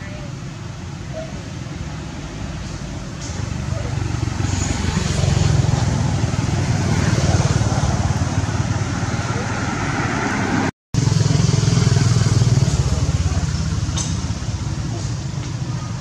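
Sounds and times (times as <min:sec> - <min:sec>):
loud rumbling noise: 0:01.6 - 0:15.8.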